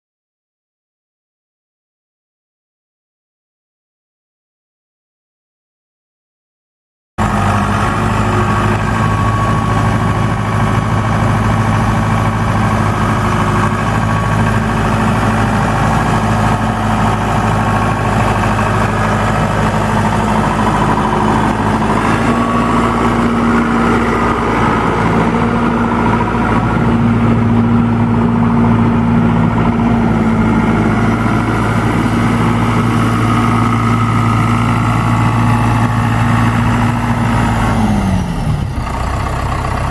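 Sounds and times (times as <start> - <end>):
tractor diesel engine running: 7.2 - 39.9.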